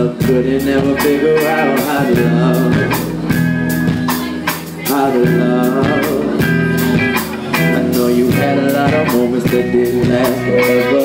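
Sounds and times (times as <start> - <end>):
electric guitar: 0.0 - 11.0
keyboard: 0.0 - 11.0
steady drum beat: 0.0 - 11.0.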